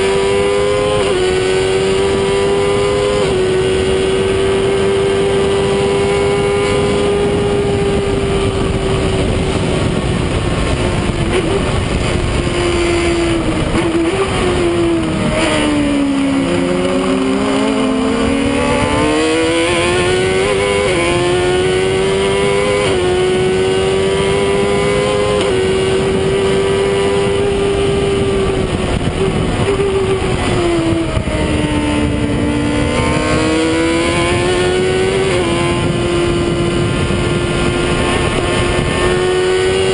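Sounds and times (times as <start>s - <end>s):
racing car engine revving: 0.0s - 39.9s
rushing wind noise: 0.0s - 39.9s.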